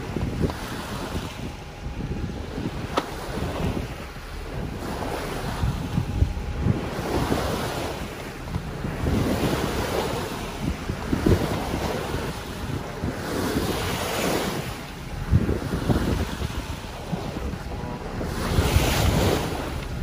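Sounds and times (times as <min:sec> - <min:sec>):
water splashing along a hull: 0:00.0 - 0:20.0
wind buffeting microphone: 0:00.0 - 0:20.0.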